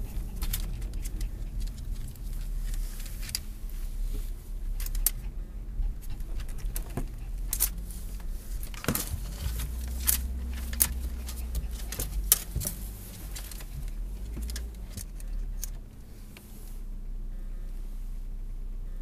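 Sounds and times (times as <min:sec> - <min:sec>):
sharp clicks and rustles: 0:00.0 - 0:16.8
car engine hum: 0:00.0 - 0:19.0.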